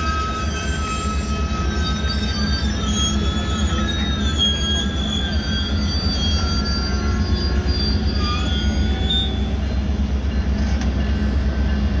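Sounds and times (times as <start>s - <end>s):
low train rumble: 0.0s - 12.0s
train wheels squealing on rails: 0.0s - 12.0s.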